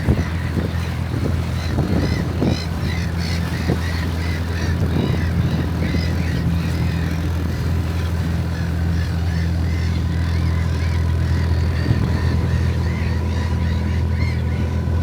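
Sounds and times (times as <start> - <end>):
choppy water: 0.0 - 15.0
small boat motor running: 0.0 - 15.0
wind: 0.0 - 15.0
waterfowl honking: 1.5 - 15.0.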